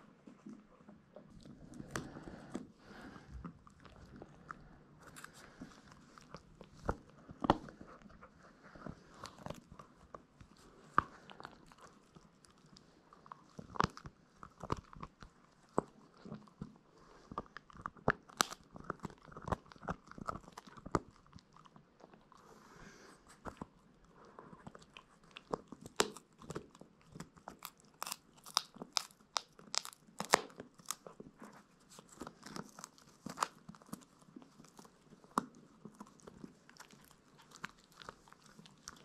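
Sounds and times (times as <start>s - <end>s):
puppy crunching chew stick: 0.2s - 39.0s.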